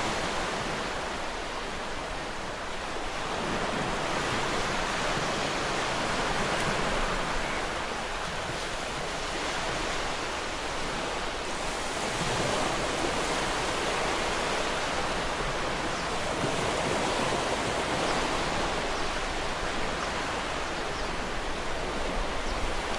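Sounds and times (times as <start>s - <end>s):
ocean waves breaking against rocks: 2.2s - 22.9s.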